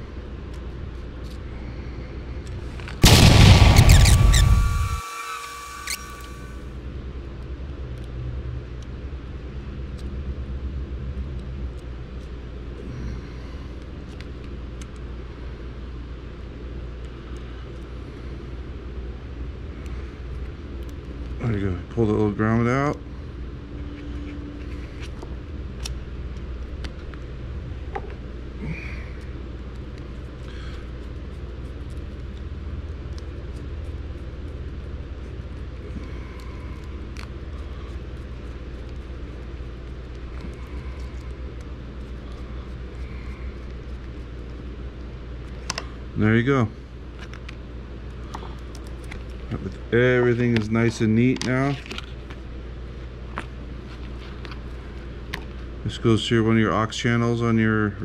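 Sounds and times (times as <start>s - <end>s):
steady low rumble: 0.0s - 5.0s, 6.2s - 58.0s.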